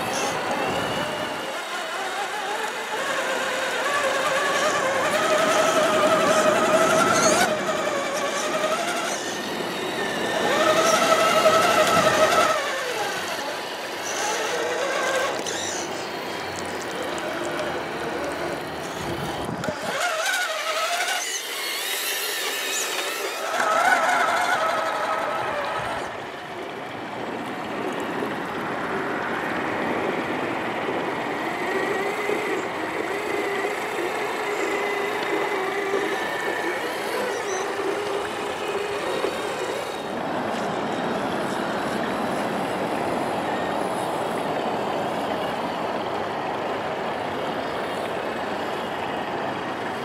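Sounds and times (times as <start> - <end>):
electric motor whining: 0.0 - 26.7, 30.9 - 44.6.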